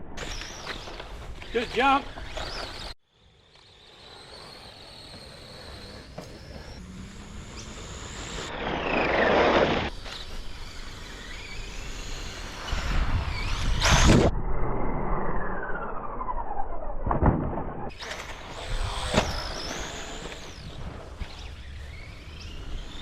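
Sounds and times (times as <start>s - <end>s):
tyres on dirt: 0.2s - 14.2s, 17.2s - 23.0s
electric rc car motor whine: 0.2s - 17.0s, 17.8s - 23.0s.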